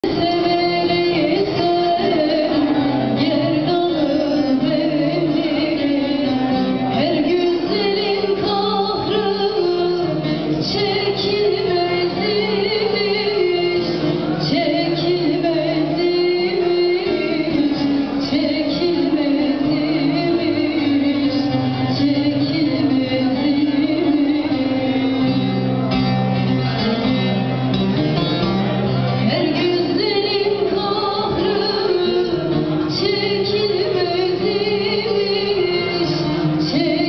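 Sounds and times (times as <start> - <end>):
woman singing: 0.0 - 25.8, 29.2 - 37.0
plucked lute: 0.0 - 37.0.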